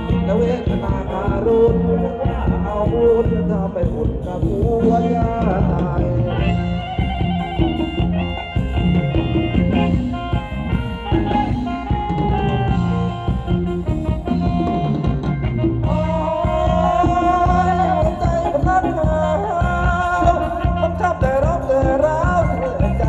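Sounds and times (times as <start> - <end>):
drum kit: 0.0 - 23.0
electric guitar: 0.0 - 23.0
sustained melody line: 0.0 - 23.0.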